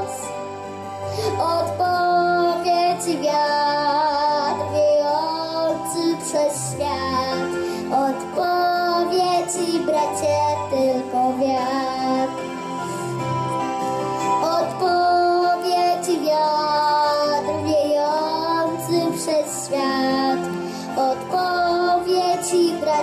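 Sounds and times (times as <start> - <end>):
girl singing into microphone: 0.0 - 0.3, 1.1 - 12.6, 14.3 - 23.0
instrumental backing music: 0.0 - 23.0.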